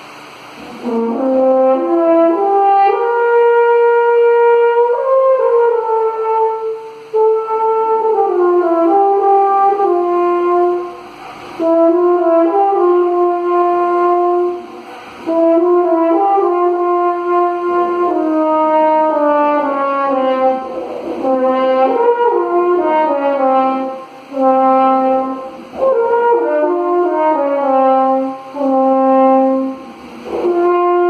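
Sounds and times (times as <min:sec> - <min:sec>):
french horn playing: 0:00.0 - 0:31.0.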